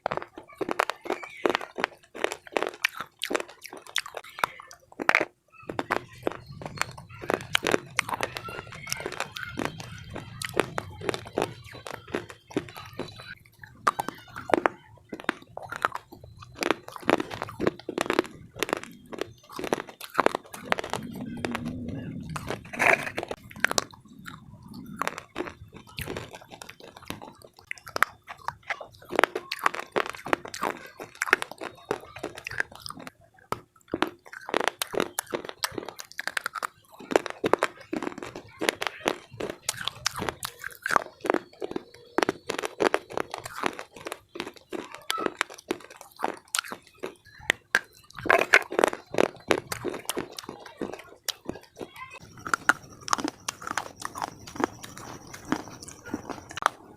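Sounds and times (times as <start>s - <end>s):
slate being chewed with crunches: 0.0s - 56.9s.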